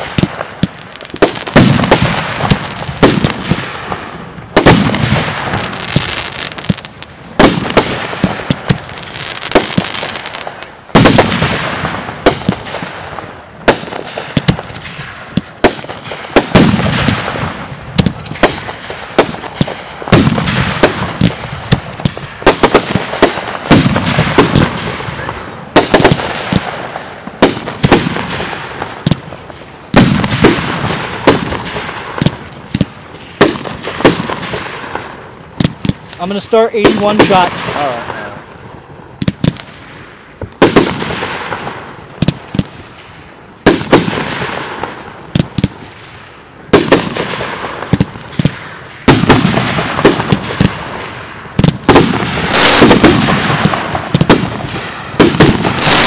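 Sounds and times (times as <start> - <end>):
fireworks bangs: 0.0 - 56.0
fireworks crackling and hissing: 0.0 - 56.0.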